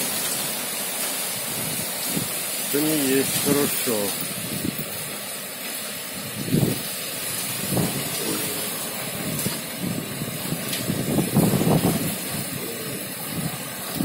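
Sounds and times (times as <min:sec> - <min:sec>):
hail and rain pelting down: 0:00.0 - 0:14.0
low thumps of hail: 0:00.0 - 0:14.0.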